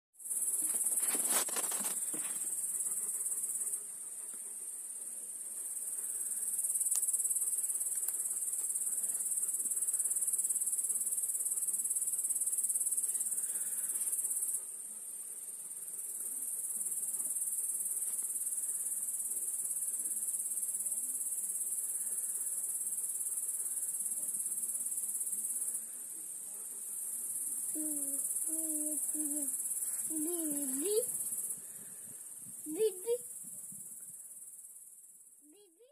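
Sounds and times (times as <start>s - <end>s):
crickets chirring: 0.2s - 3.7s, 5.6s - 14.6s, 15.4s - 35.9s.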